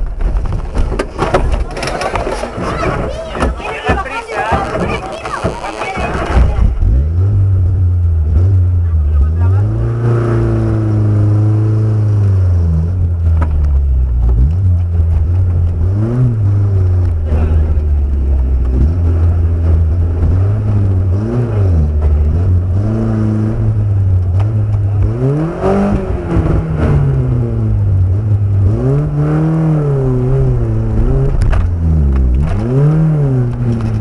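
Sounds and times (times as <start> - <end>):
off-road vehicle engine revving: 1.5 - 34.0.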